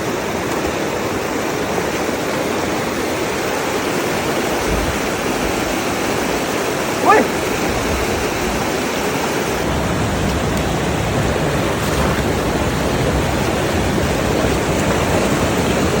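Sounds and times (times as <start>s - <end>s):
fast-flowing stream rushing: 0.0s - 16.0s.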